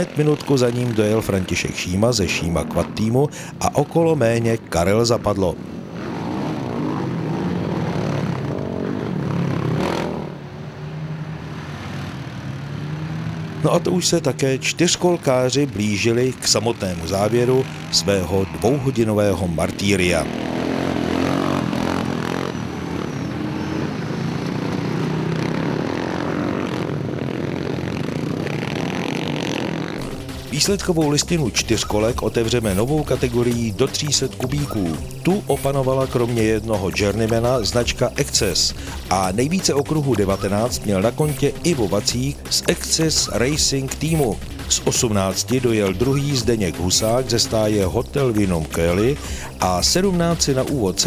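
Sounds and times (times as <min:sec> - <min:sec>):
quad bike engines revving: 0:00.0 - 0:51.0.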